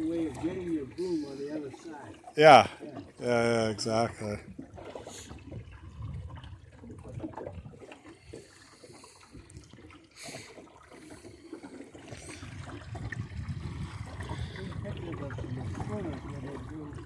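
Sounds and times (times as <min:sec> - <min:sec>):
short water rush: 0:00.0 - 0:17.0
water lapping against hull: 0:00.0 - 0:17.0.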